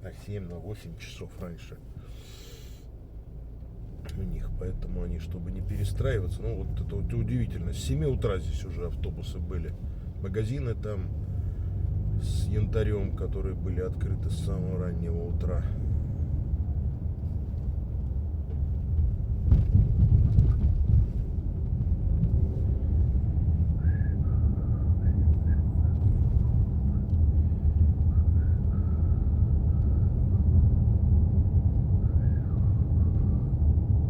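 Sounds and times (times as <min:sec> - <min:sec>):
car interior road rumble: 0:00.0 - 0:34.0.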